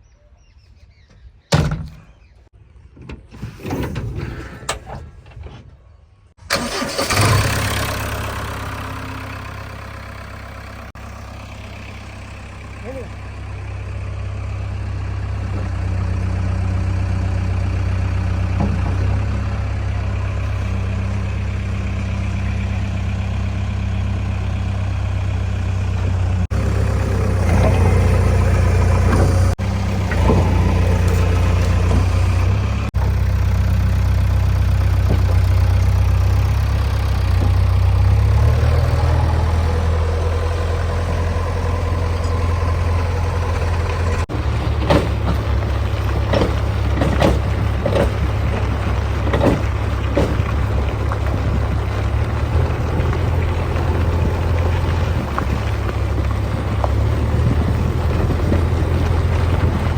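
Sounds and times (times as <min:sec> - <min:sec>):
heavy diesel engines running: 0:06.4 - 0:59.9.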